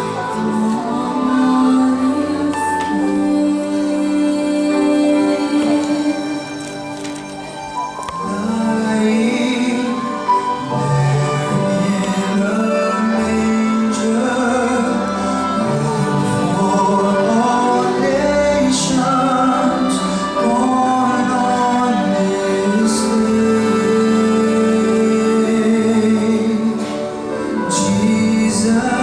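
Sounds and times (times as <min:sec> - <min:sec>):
choir singing: 0:00.0 - 0:29.0
orchestra playing: 0:00.0 - 0:29.0.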